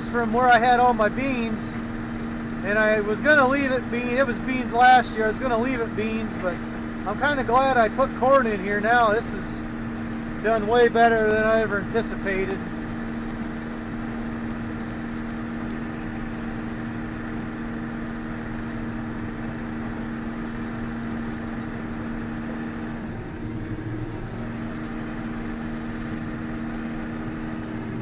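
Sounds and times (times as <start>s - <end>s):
combine harvester engine drone: 0.0s - 28.0s.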